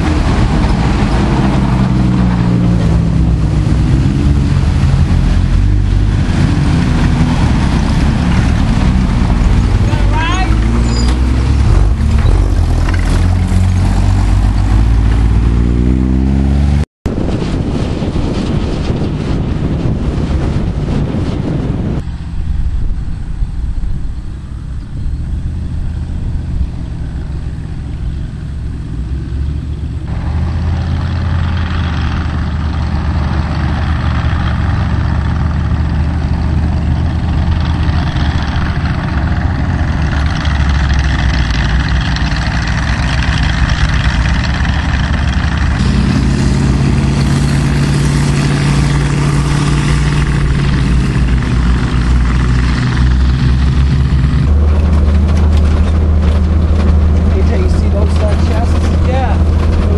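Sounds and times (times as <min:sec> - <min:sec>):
military vehicle engines running: 0:00.0 - 0:59.9.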